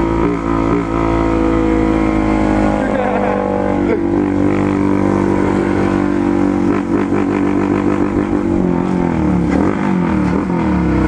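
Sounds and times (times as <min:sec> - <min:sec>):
motorcycle engine revving high: 0:00.0 - 0:11.0.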